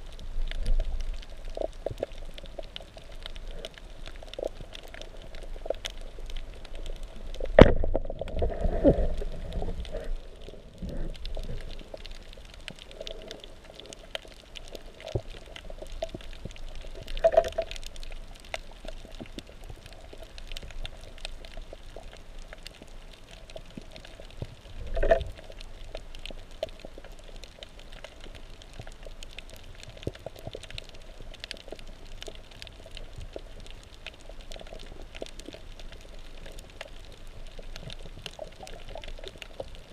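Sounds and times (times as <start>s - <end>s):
underwater crackle of clicks: 0.0s - 39.9s.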